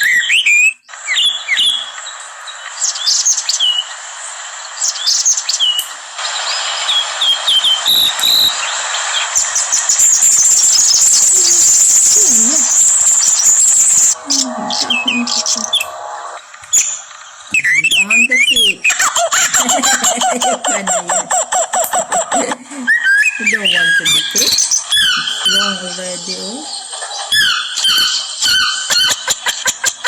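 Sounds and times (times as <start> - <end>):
small birds chirping: 0.0 - 30.0
steady hiss: 0.9 - 30.0.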